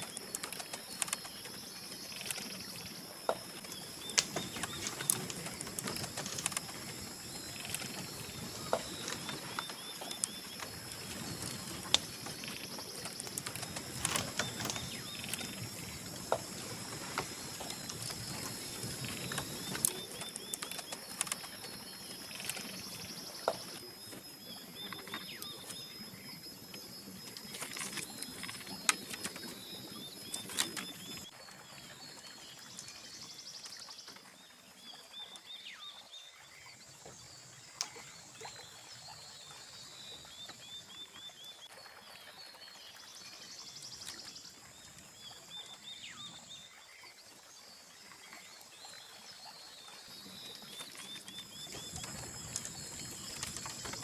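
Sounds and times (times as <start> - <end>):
stream flowing: 0.0 - 36.1, 37.8 - 54.0.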